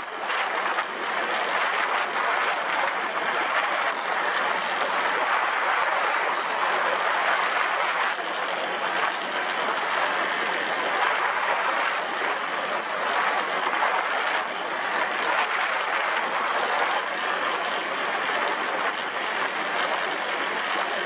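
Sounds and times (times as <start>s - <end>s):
engine running: 0.0s - 21.0s
rushing ride noise: 0.0s - 21.0s.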